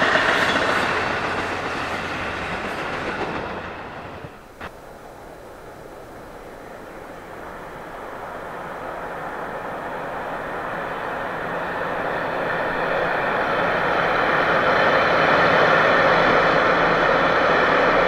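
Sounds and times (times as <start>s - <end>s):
train approaching: 0.0s - 18.0s.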